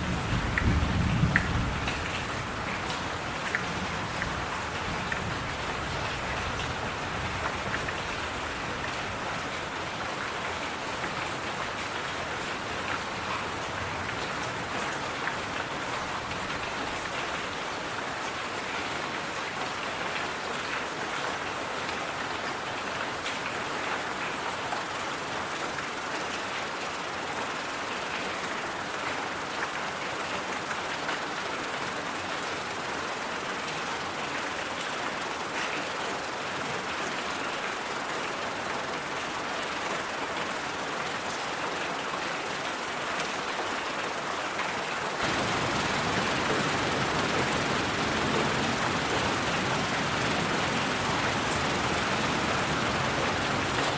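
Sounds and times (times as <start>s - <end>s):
steady white noise hiss: 0.0s - 53.9s.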